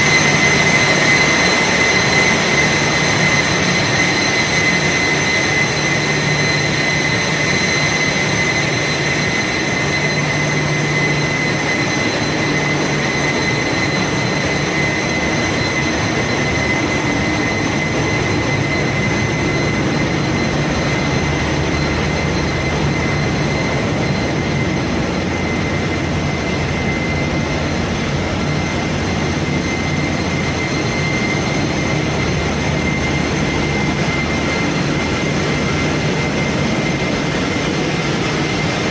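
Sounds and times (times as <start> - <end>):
engine room machinery: 0.0 - 38.9
high-pitched whine: 0.0 - 38.9.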